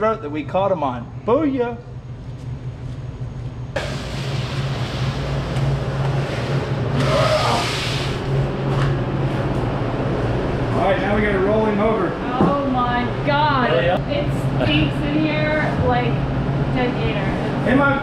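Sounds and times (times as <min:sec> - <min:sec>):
refrigeration unit hum: 0:00.0 - 0:18.0
rushing fan noise: 0:00.0 - 0:18.0.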